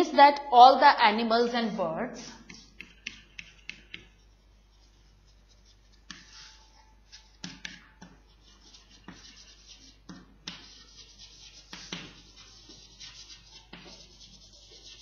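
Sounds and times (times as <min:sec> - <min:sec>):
chalk scratching on blackboard: 0:02.2 - 0:15.0
chalk tapping on board: 0:02.2 - 0:15.0.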